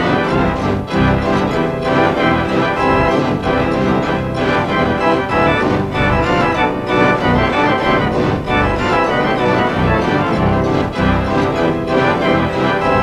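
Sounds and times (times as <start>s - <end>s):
organ-like theme music: 0.0s - 13.0s.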